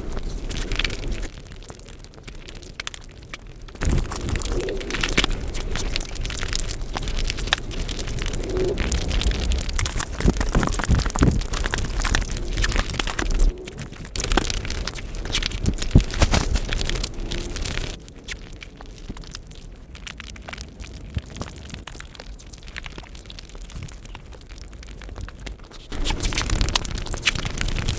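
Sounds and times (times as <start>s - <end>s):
chewing and mouth sounds: 0.1s - 27.9s.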